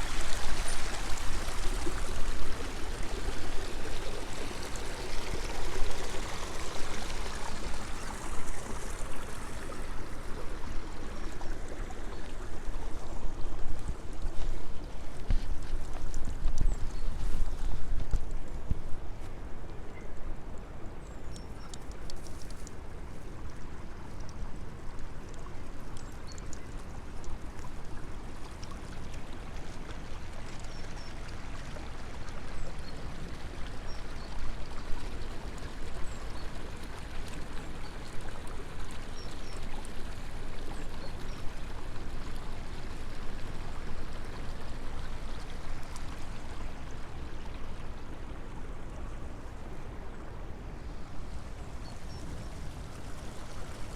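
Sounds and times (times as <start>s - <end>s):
running river water: 0.0s - 53.9s.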